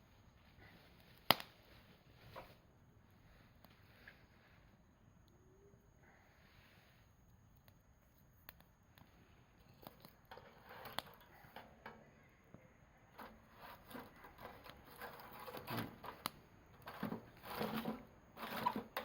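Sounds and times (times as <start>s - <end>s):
faint campfire crackling: 0.0s - 19.0s.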